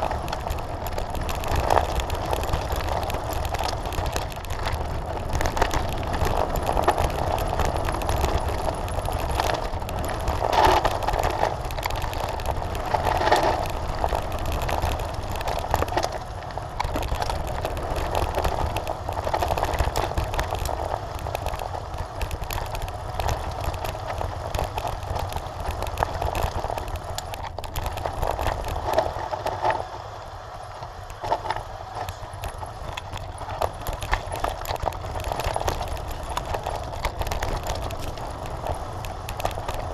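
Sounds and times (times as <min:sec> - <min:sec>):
bike rattling: 0:00.0 - 0:39.9
tyres crunching over stones: 0:00.0 - 0:39.9.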